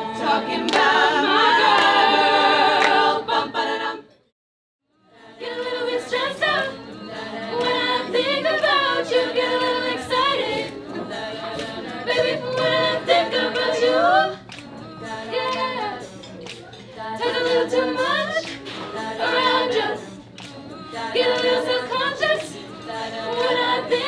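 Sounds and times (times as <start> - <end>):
girls singing in harmony: 0.0 - 4.2, 4.9 - 24.0.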